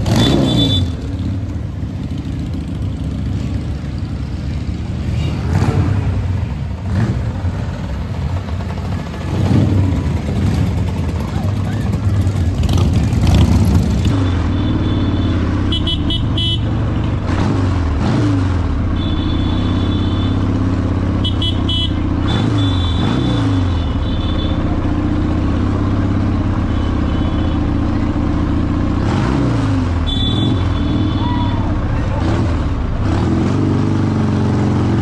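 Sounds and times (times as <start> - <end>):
motorcycle engines running: 0.0 - 35.0.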